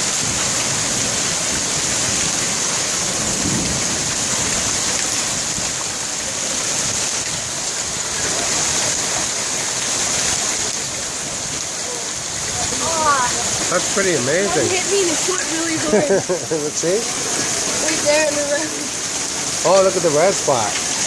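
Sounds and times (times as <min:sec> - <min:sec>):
hail pelting water and dock: 0:00.0 - 0:21.0.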